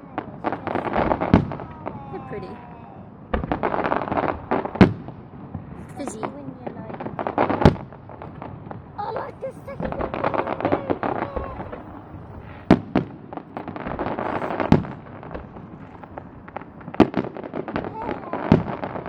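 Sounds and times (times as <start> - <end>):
fireworks crackling: 0.0 - 19.0
loud sharp firework bangs: 0.0 - 19.0.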